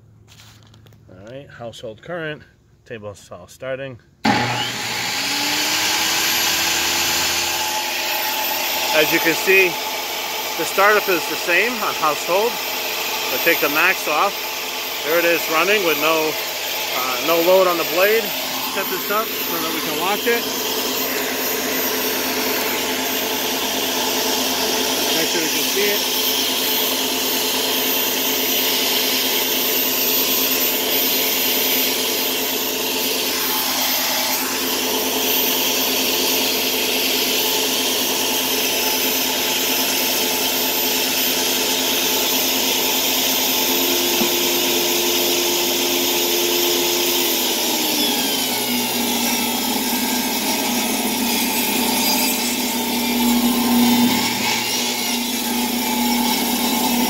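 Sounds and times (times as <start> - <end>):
saw cutting through wood: 4.2 - 57.0
table saw whine: 4.2 - 57.0.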